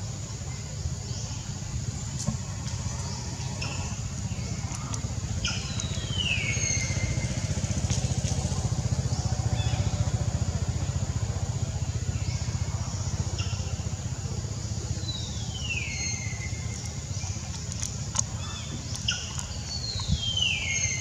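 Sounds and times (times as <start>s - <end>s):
low pulsing engine rumble: 0.0s - 21.0s.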